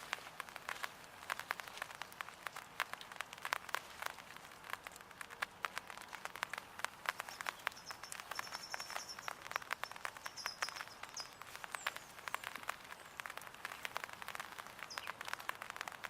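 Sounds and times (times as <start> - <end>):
raindrops pattering on umbrella: 0.0 - 16.0.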